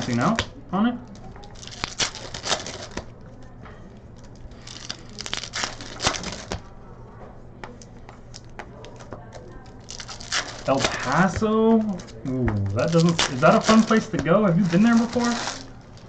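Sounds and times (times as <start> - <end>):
foil wrappers crinkling and tearing: 0.0 - 3.5, 4.2 - 6.7, 8.3 - 16.0.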